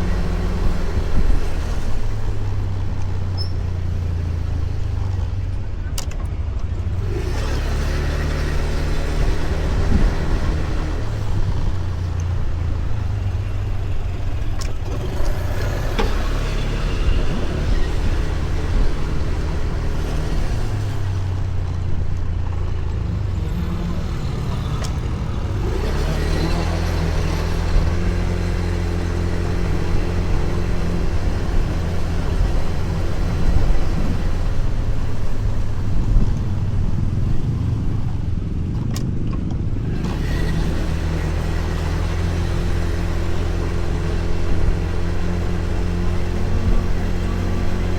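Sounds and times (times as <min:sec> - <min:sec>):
rushing road noise: 0:00.0 - 0:47.9
scooter engine running: 0:00.0 - 0:47.9.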